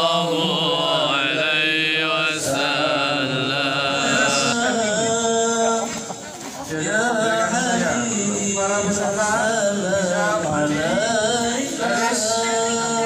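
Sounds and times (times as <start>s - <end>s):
men singing a chant: 0.0s - 13.0s.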